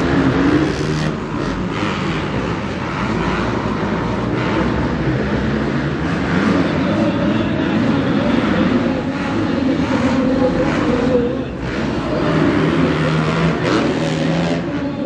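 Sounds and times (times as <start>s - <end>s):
motocross bike engines racing: 0.0s - 15.0s.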